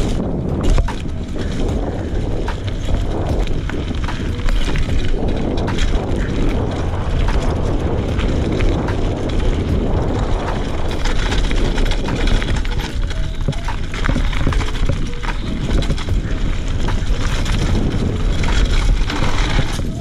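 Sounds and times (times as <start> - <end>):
bike chain and frame rattling: 0.0 - 20.0
tyres rolling over dirt: 0.0 - 20.0
wind rumble on microphone: 0.0 - 20.0.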